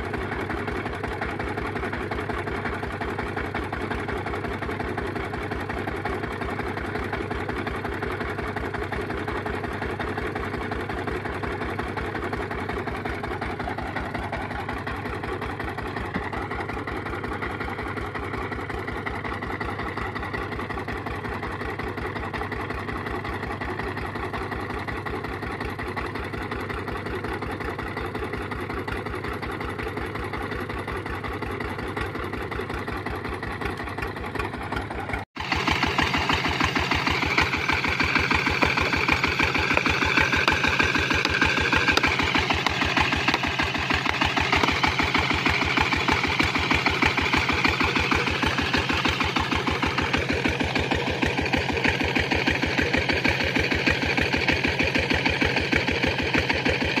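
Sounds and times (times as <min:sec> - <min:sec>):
diesel pump engine running: 0:00.0 - 0:57.0.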